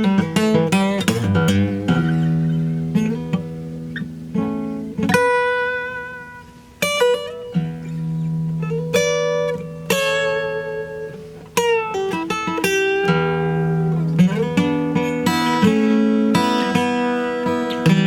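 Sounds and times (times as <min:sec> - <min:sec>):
solo guitar playing: 0:00.0 - 0:18.0.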